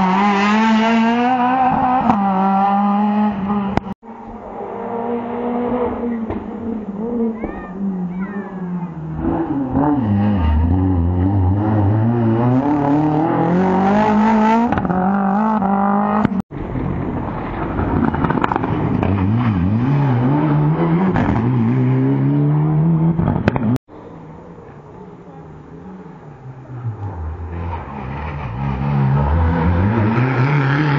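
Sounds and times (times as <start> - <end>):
rally car engine revving: 0.0 - 23.8, 25.5 - 30.9.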